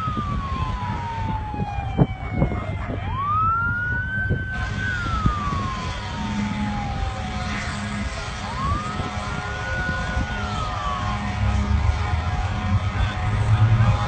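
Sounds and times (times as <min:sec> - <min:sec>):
siren wailing: 0:00.0 - 0:14.0
steady low rumble: 0:00.0 - 0:14.0.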